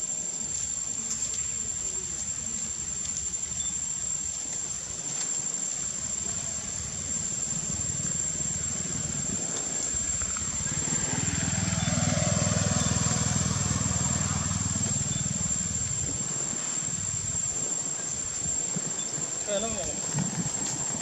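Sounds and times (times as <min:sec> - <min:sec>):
vehicle engine rumble: 0:00.4 - 0:21.0.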